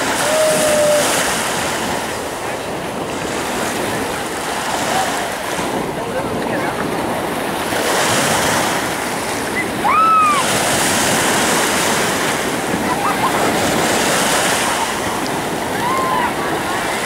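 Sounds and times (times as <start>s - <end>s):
ocean surf washing in: 0.0s - 17.0s
wind noise on microphone: 0.0s - 17.0s.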